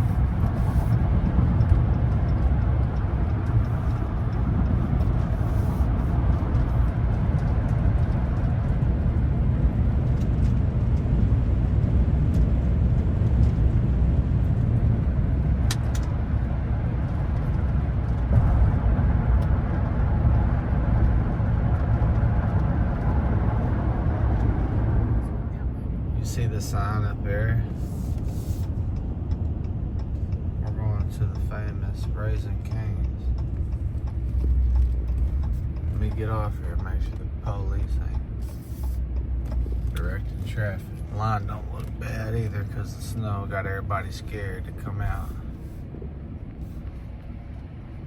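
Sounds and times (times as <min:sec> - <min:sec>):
engine and road noise in cab: 0:00.0 - 0:48.0.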